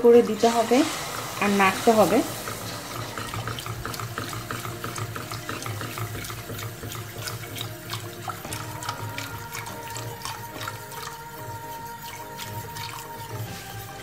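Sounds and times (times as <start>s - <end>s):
milk pouring into a saucepan: 0.0s - 14.0s
whisk ticking against a pan: 0.0s - 14.0s.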